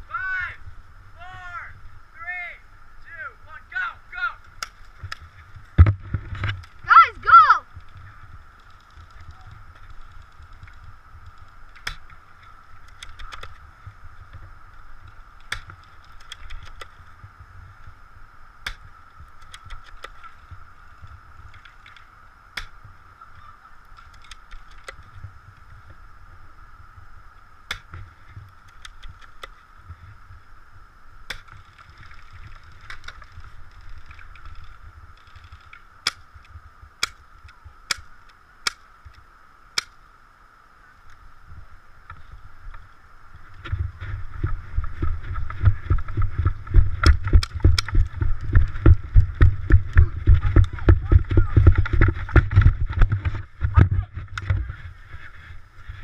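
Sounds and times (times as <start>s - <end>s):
low rumble of movement: 0.0s - 6.9s, 7.6s - 37.8s, 41.1s - 56.0s
faint high hum: 0.0s - 56.0s.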